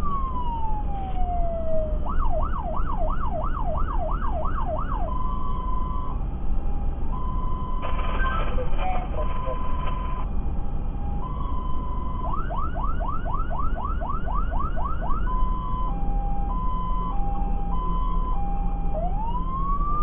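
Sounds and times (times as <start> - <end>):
fire engine electronic siren: 0.0 - 20.0
truck engine and tyres rumble: 0.0 - 20.0.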